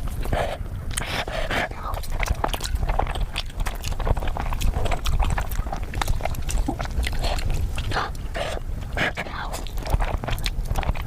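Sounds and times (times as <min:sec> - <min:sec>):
chewing noodles with mouth smacks: 0:00.0 - 0:11.0.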